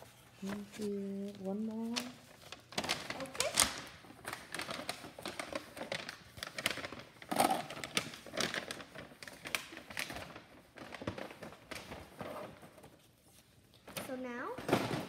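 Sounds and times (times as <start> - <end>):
packages handled into wire basket: 0.0 - 15.0.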